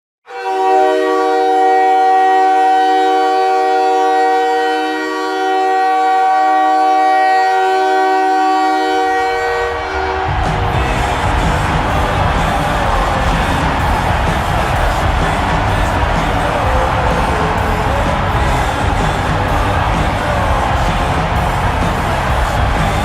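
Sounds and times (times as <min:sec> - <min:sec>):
hockey goal horn: 0:00.3 - 0:23.0.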